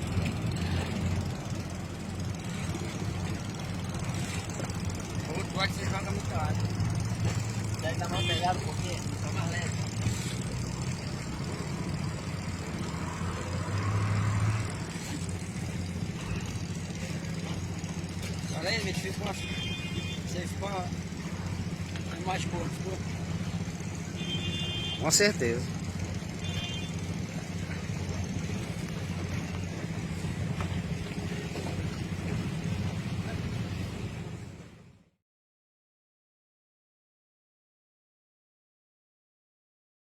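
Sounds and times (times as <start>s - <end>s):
boat diesel engine droning: 0.0s - 35.1s.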